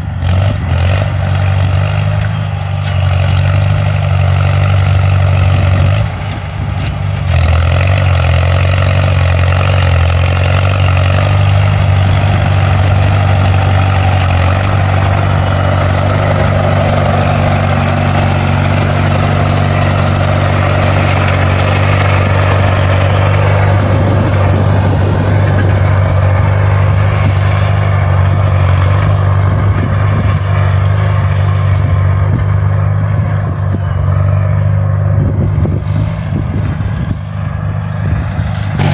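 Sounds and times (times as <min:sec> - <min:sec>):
vehicle engine running loudly: 0:00.0 - 0:38.9.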